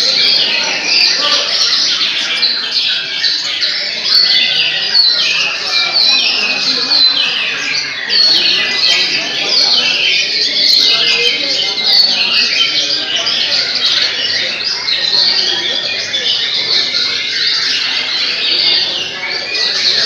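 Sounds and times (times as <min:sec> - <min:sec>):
chorus of songbirds singing: 0:00.0 - 0:20.0.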